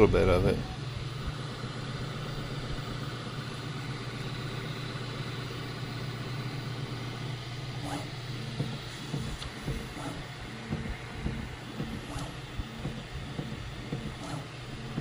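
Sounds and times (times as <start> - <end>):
abnormal mechanical noise: 0.0 - 15.0
printer humming: 0.0 - 15.0.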